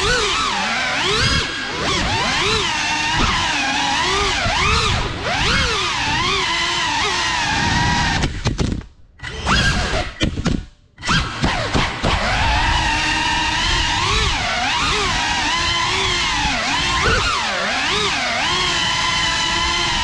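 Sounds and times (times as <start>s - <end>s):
drone motors whining: 0.0s - 8.6s, 9.2s - 10.4s, 11.0s - 20.0s.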